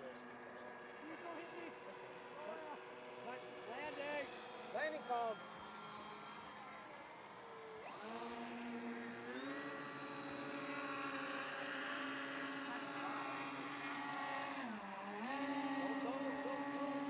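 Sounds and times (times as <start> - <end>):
model aircraft motors buzzing: 0.0 - 17.0.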